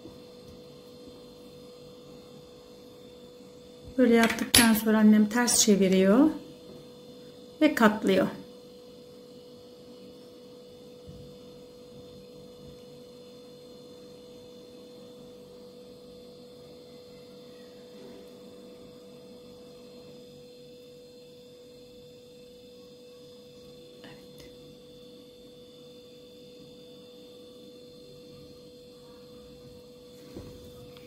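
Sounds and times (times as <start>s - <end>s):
faint electrical hum: 0.0s - 31.0s.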